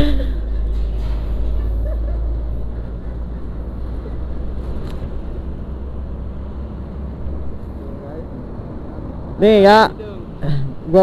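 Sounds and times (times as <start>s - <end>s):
road vehicle rumble: 0.0s - 11.0s.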